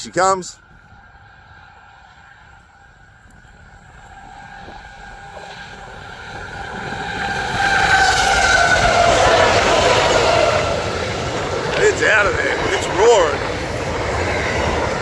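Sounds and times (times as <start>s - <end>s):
diesel locomotives approaching: 0.0s - 15.0s.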